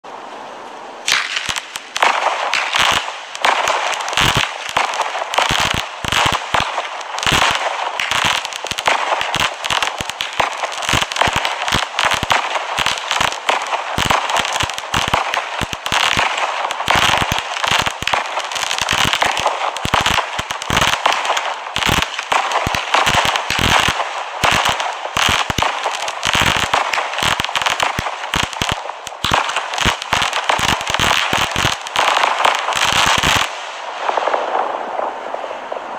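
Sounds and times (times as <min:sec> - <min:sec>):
firework crackle: 0:01.0 - 0:35.9
firework launch thumps and bursts: 0:01.1 - 0:35.1.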